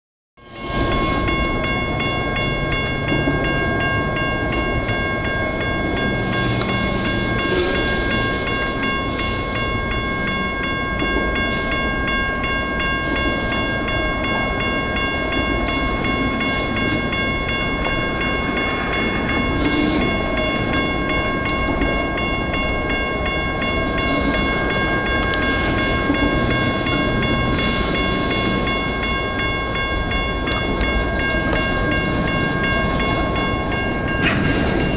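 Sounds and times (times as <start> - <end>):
freight cars rumbling on rails: 0.4 - 34.9
high ringing tone: 0.4 - 34.9.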